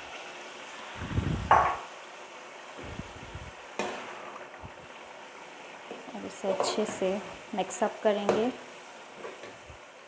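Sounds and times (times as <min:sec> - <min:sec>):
sauce simmering and sizzling: 0:00.0 - 0:10.0.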